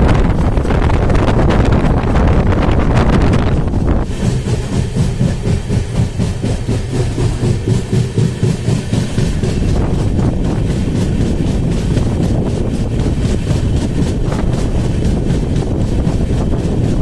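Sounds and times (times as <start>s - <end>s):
low train rumble: 0.0s - 17.0s
train wheels clattering on track: 0.0s - 17.0s.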